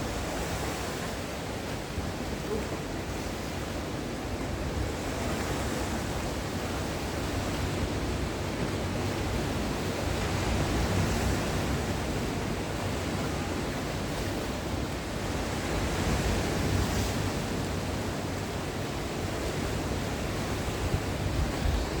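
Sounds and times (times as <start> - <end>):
sea waves breaking on shore: 0.0 - 22.0.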